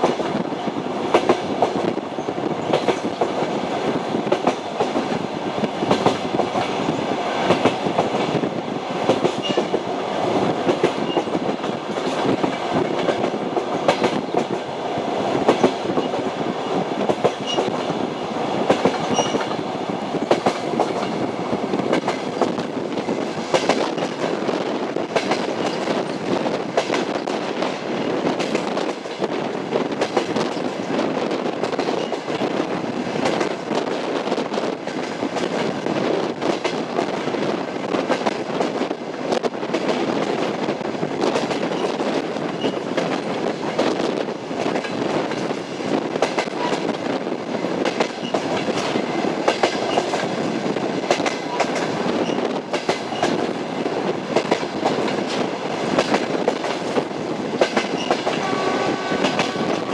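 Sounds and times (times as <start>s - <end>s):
train rumble: 0.0s - 59.9s
train wheels clacking on rails: 0.0s - 59.9s.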